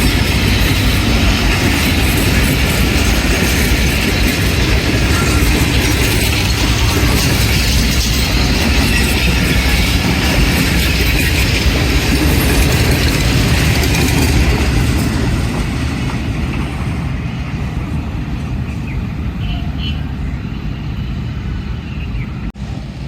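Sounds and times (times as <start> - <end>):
train rattling on track: 0.0 - 23.0.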